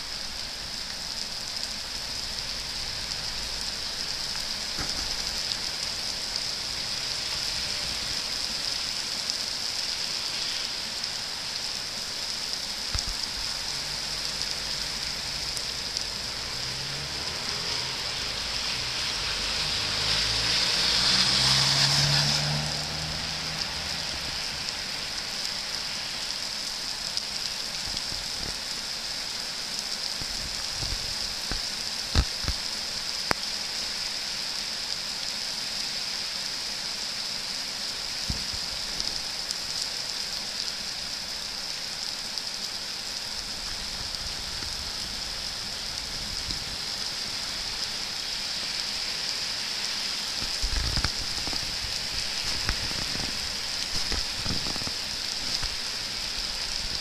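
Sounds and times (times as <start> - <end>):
heavy rain pouring on street: 0.0 - 57.0.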